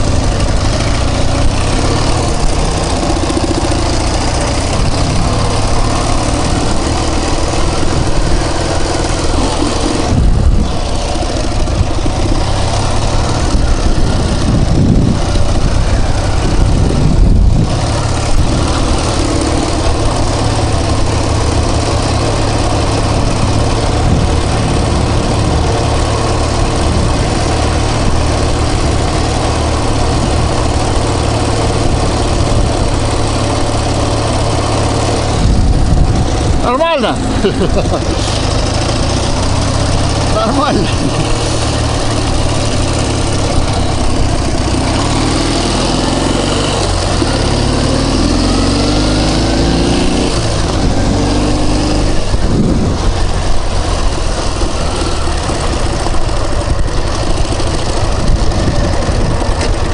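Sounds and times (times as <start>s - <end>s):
wind noise on microphone: 0.0s - 21.5s, 22.4s - 36.7s, 40.7s - 59.9s
motorcycle engine running: 0.0s - 59.9s.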